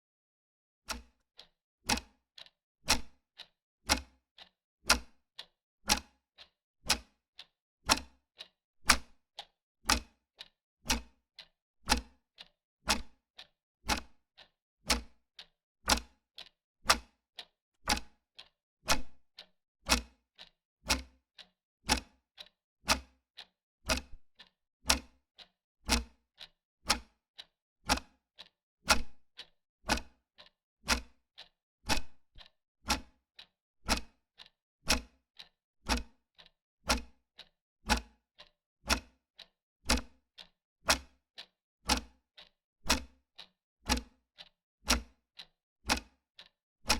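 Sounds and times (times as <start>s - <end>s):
wall clock ticking: 0.9s - 3.1s, 3.9s - 4.2s, 4.9s - 6.1s, 6.9s - 9.2s, 9.9s - 10.2s, 10.9s - 17.2s, 17.9s - 26.2s, 26.9s - 46.9s.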